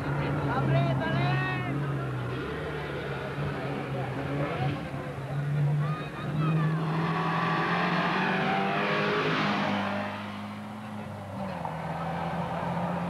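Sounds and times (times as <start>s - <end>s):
racing car accelerating past: 1.7s - 13.0s.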